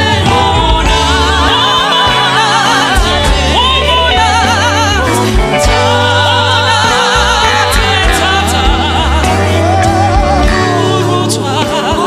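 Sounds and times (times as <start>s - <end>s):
voices singing with vibrato: 0.0s - 12.0s.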